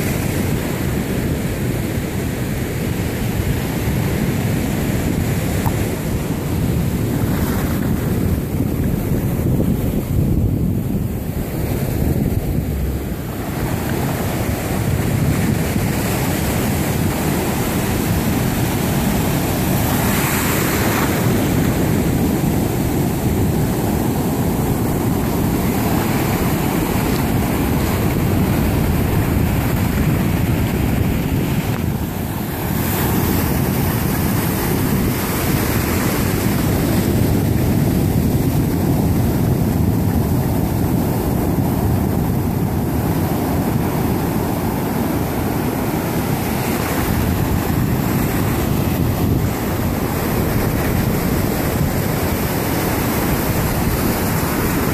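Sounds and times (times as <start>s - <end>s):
ocean surf breaking: 0.0s - 54.9s
wind buffeting microphone: 0.0s - 54.9s.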